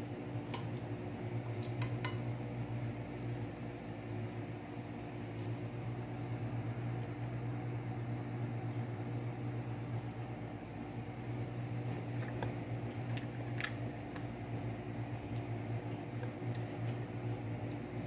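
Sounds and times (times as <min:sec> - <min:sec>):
kitchen appliance humming: 0:00.0 - 0:18.0.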